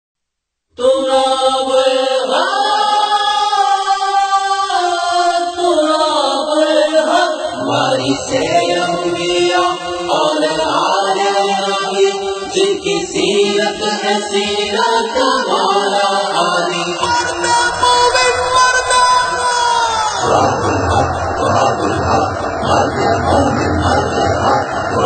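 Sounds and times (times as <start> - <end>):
layered voices singing held notes: 0.8 - 25.0.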